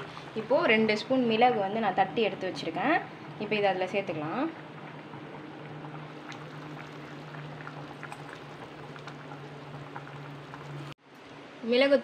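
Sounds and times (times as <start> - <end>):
gravy bubbling and popping: 0.0 - 11.0
steady low hum: 0.0 - 11.8.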